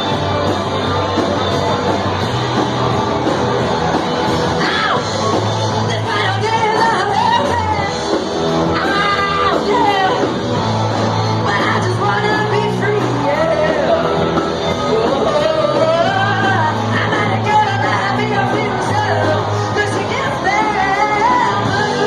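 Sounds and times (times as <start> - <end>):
rock band playing live: 0.0 - 22.0
singer singing and shouting: 3.9 - 22.0.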